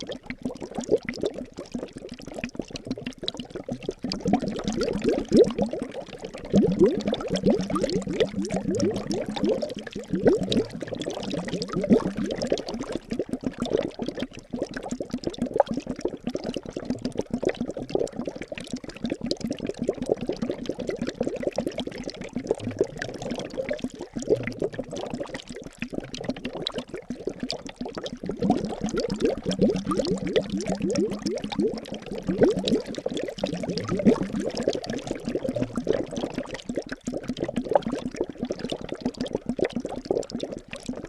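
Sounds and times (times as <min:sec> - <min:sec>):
liquid bubbling and gurgling: 0:00.0 - 0:41.0.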